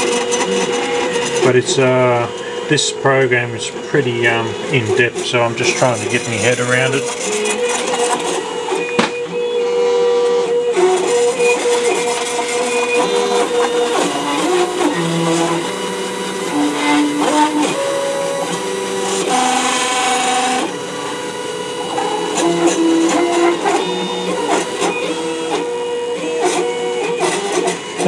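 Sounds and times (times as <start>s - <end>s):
stepper motors whining: 0.0s - 28.0s.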